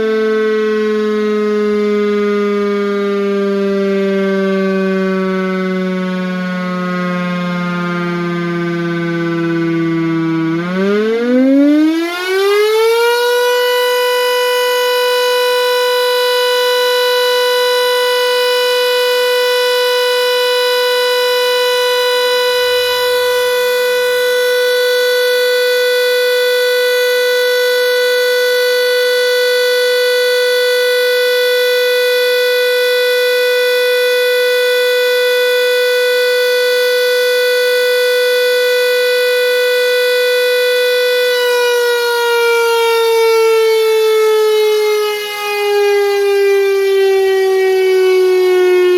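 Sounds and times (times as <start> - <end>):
warning siren rising tone: 0.0 - 48.9.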